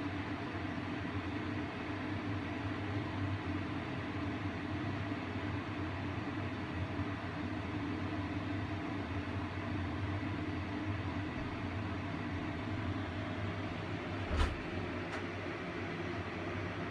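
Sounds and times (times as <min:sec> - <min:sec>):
electrical mains hum: 0:00.0 - 0:16.9.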